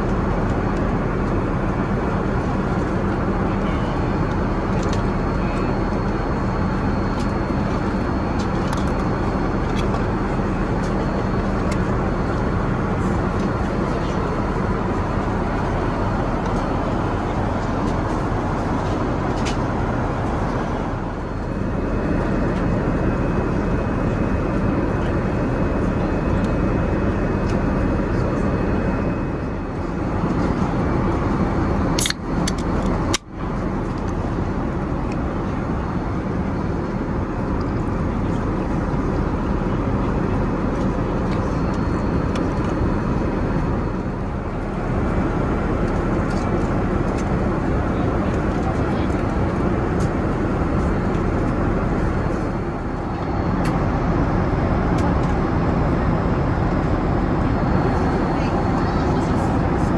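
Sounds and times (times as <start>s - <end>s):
airliner cabin noise: 0.0s - 59.9s.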